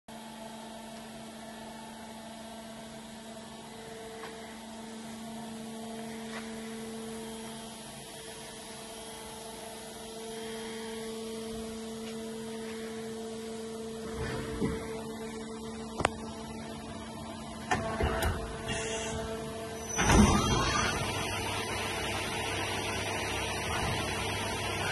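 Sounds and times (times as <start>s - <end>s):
lathe electrical hum: 0.1s - 24.9s.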